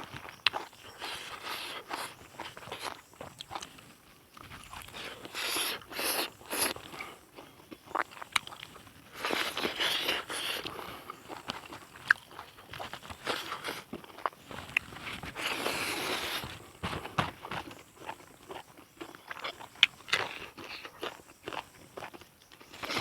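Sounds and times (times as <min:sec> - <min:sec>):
person chewing and crunching: 0:00.0 - 0:23.0.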